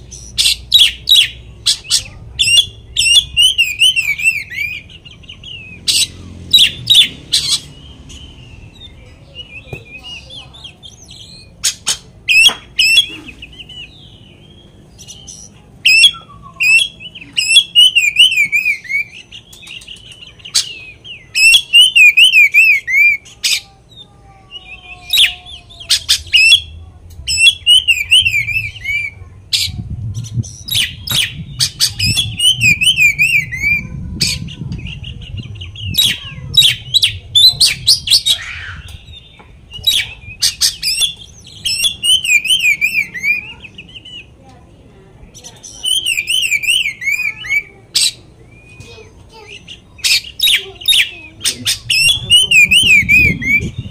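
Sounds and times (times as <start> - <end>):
bird singing trills and whistles: 0.0 - 44.4, 45.3 - 53.9.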